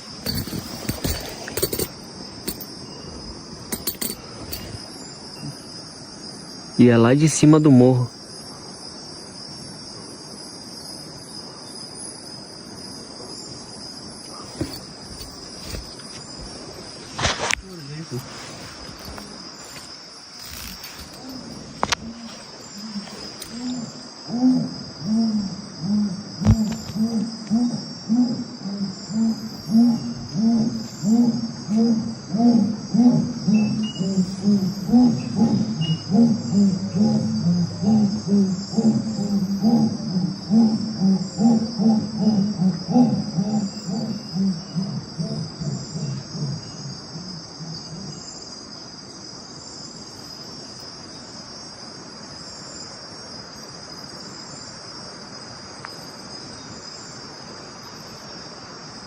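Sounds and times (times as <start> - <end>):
crickets and insects chirring: 0.0 - 59.0.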